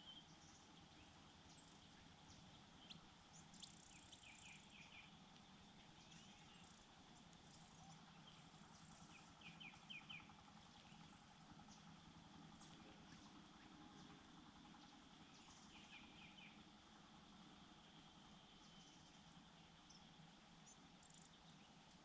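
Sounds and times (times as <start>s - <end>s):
faint bird chirps: 0.0s - 16.8s, 17.7s - 21.9s
low background hiss: 0.0s - 22.0s.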